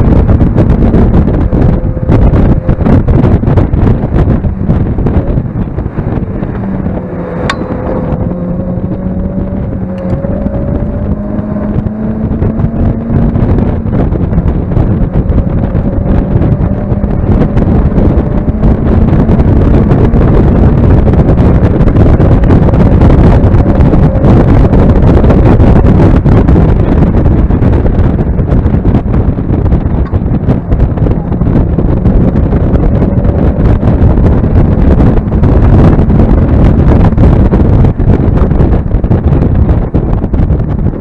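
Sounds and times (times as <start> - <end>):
car engine pulling hard: 0.0 - 41.0
wind buffeting microphone: 0.0 - 41.0.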